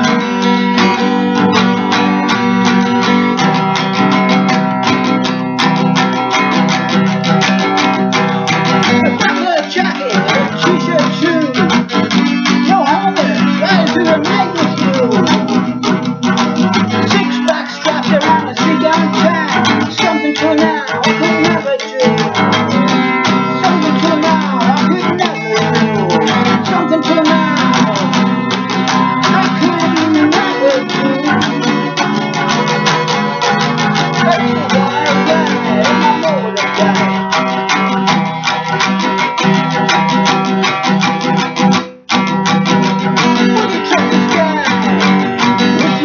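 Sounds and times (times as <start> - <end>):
rock song with guitar: 0.0 - 46.0.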